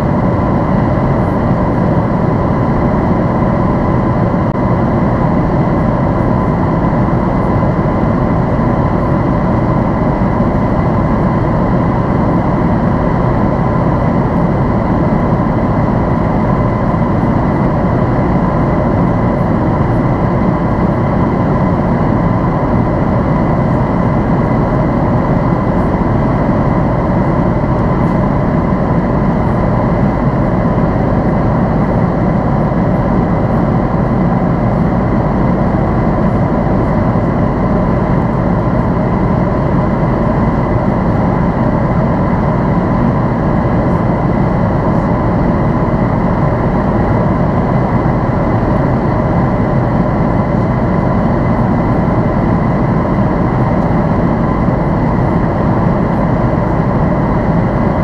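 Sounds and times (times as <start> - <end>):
airliner cabin engine rumble: 0.0 - 58.0
steady high whine: 0.0 - 58.0.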